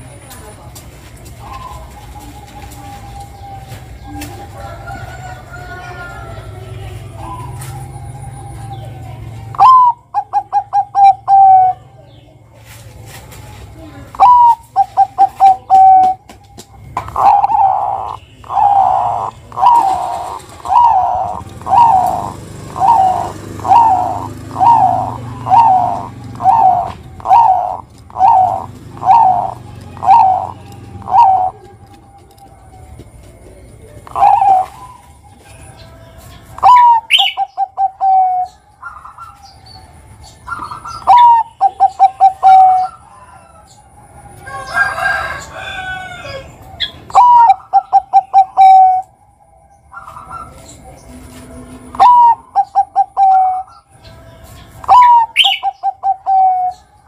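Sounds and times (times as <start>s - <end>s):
dove cooing: 1.4s - 12.0s, 13.1s - 35.7s, 36.5s - 53.9s, 54.8s - 57.0s.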